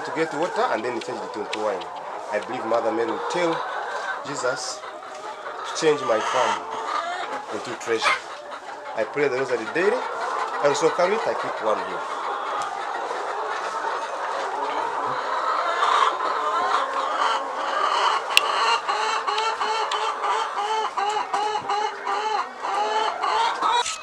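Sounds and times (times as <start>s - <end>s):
hens clucking: 0.0s - 24.0s.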